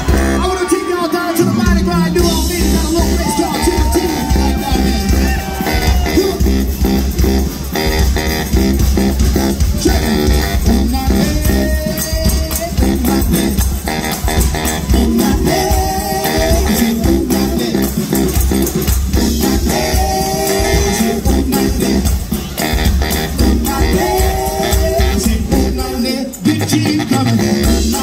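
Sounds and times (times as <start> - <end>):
funk band playing: 0.0 - 28.0
heavy bass guitar: 0.0 - 28.0
tambourine shaken: 1.5 - 28.0.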